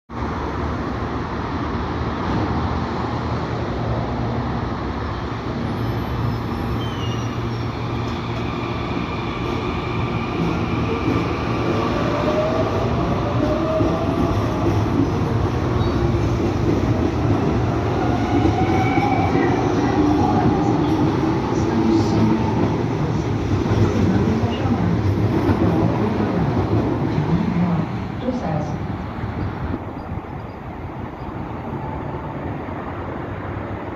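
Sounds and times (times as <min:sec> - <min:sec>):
wheels rumbling on rail: 0:00.2 - 0:33.9.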